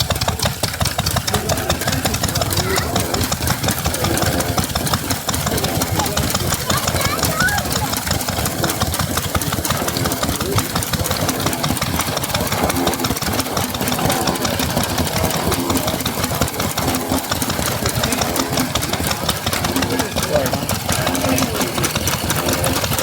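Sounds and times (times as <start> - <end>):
faint background voices: 0.0 - 23.0
stationary engine knocking: 0.0 - 23.0.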